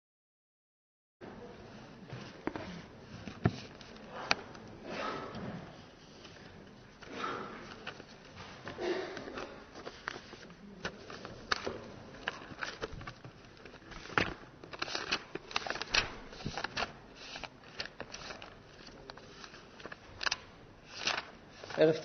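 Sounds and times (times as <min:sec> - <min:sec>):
paper rustling: 0:02.1 - 0:22.0.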